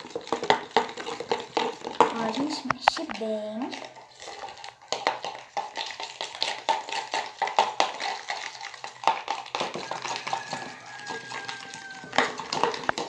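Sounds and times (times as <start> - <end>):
spoon stirring slime in plastic bowl: 0.0 - 13.0.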